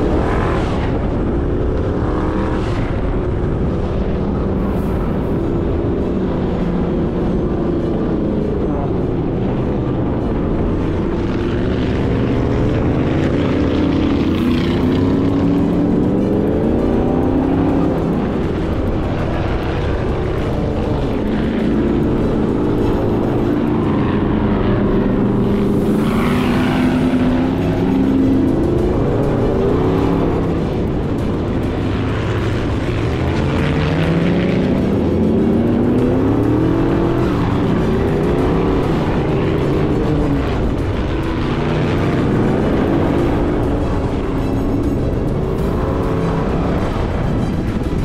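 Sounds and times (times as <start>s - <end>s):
engine revving: 0.0s - 48.0s
low rumble: 0.0s - 48.0s.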